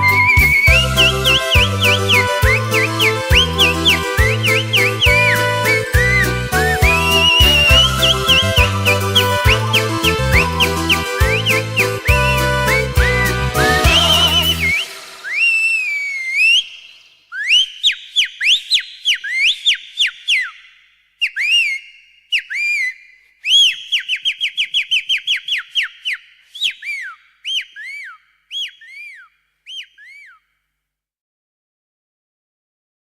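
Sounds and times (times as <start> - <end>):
whistled notes and chirps: 0.0 - 30.6.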